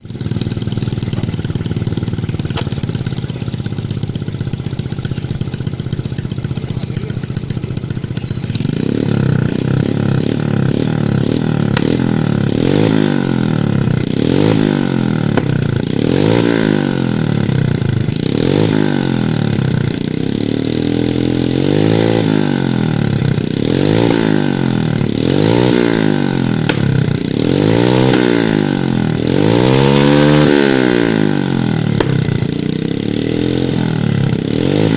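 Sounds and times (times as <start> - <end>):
exhaust backfiring pops: 0.0 - 20.1, 22.2 - 34.9
motorcycle engine revving: 0.0 - 34.9.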